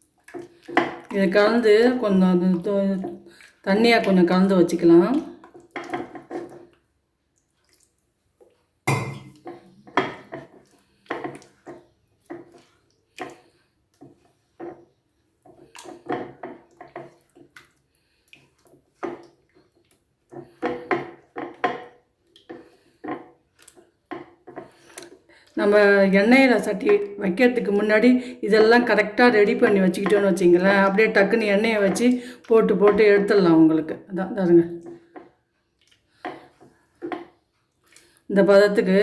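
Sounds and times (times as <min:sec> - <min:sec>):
spoon stirring batter in bowl: 0:00.0 - 0:39.0.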